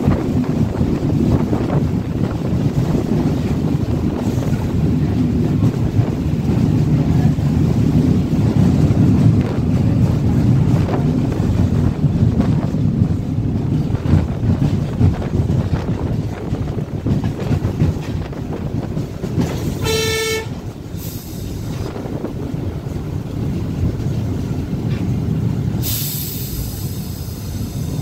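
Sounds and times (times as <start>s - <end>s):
rail bus running on track: 0.0s - 28.0s
wind buffeting microphone: 0.0s - 28.0s.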